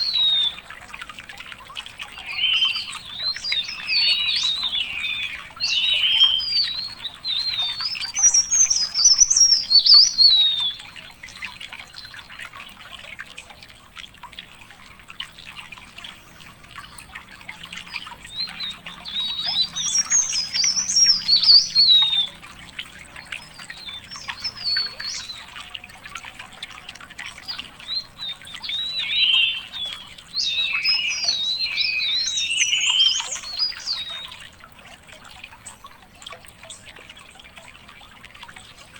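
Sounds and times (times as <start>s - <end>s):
songbird warbling: 0.0s - 12.4s, 15.3s - 38.9s.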